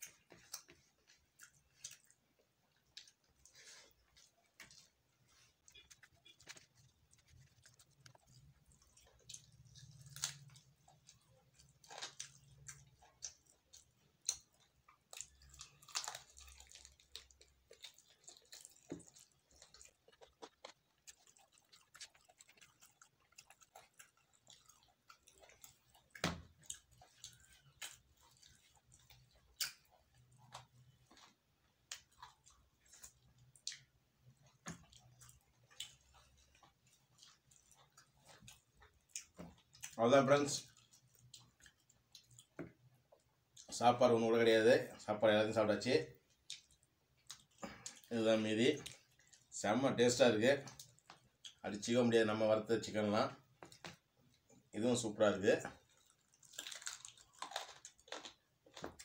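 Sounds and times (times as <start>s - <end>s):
man chewing: 0.0s - 40.0s, 40.6s - 43.7s, 46.3s - 48.1s, 48.8s - 49.5s, 55.8s - 59.0s.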